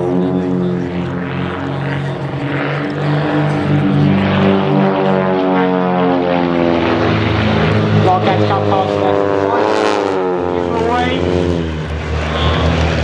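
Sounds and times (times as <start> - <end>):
propeller plane engines droning: 0.0 - 13.0.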